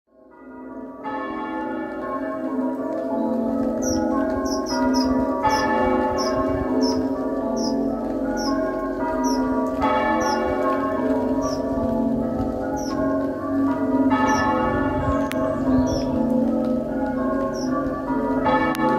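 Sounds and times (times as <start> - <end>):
muffled church bells: 0.1 - 18.9.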